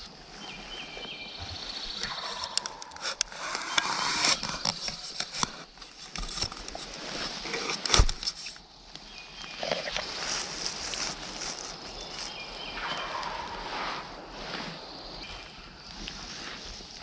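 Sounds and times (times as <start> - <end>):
rustling in dry leaves: 0.0 - 17.0.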